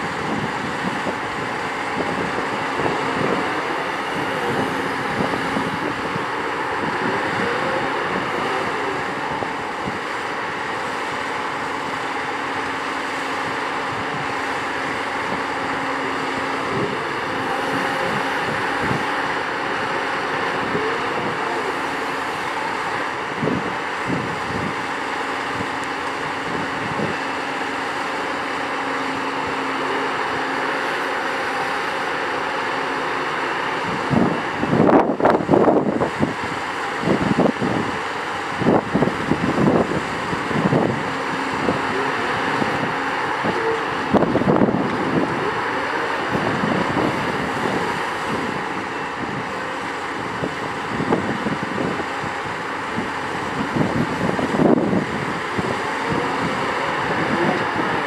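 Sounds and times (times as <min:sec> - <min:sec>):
excavator diesel engine humming: 0:00.0 - 0:58.0.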